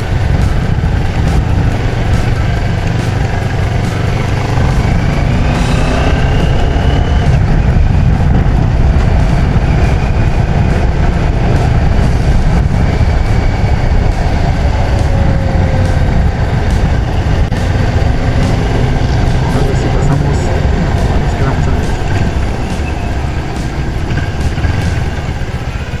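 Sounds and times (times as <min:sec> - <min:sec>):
low rumble: 0:00.0 - 0:26.0
motorcycle engine running: 0:00.0 - 0:26.0.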